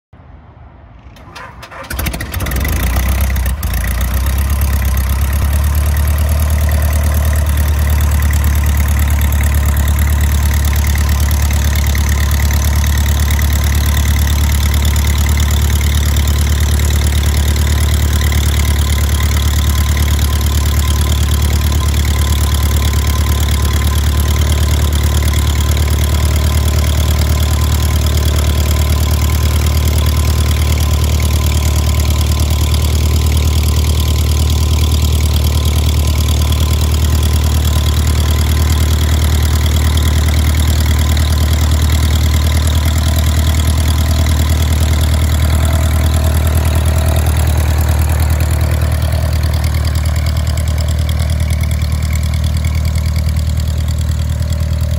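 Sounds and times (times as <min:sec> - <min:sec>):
airplane engine starting and idling: 0:00.2 - 0:54.9.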